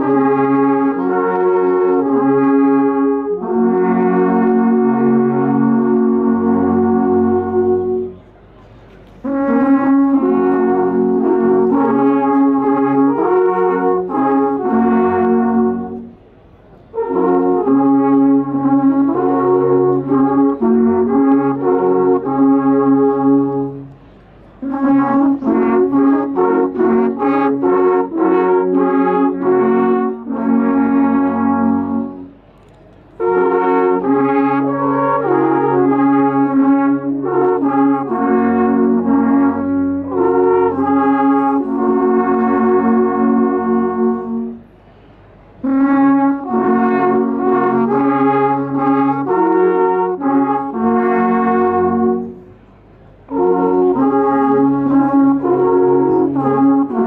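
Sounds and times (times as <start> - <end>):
alphorns playing slow melody: 0.0 - 8.2, 9.3 - 16.1, 17.0 - 24.0, 24.6 - 32.4, 33.2 - 44.7, 45.6 - 52.4, 53.3 - 57.0.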